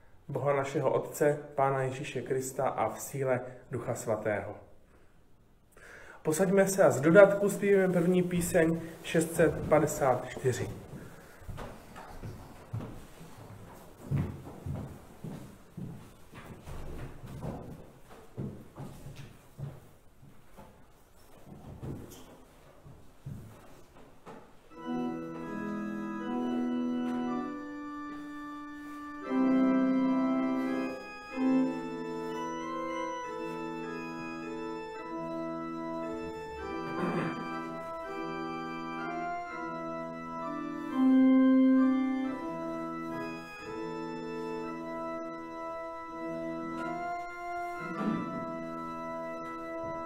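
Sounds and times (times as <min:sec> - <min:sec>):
church organ playing a hymn: 0:00.0 - 0:04.6, 0:06.2 - 0:17.6, 0:24.7 - 0:50.0.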